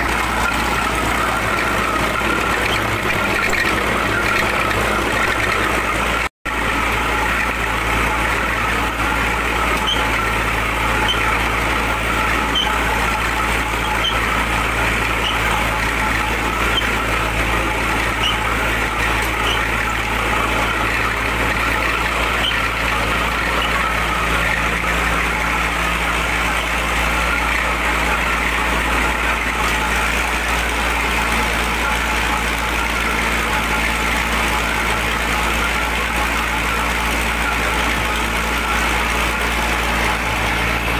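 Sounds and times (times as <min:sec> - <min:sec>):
brick machine mechanical drone: 0:00.0 - 0:40.9.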